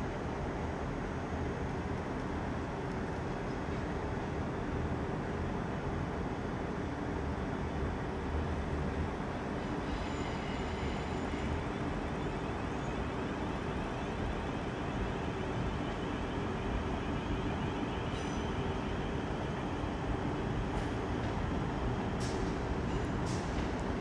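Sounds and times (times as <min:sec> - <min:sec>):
train steady drone: 0:00.0 - 0:24.0.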